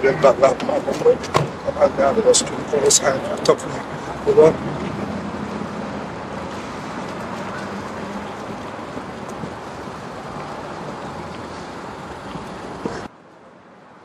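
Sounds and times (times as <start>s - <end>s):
distant road traffic: 0.0s - 14.0s
wind: 0.0s - 14.0s.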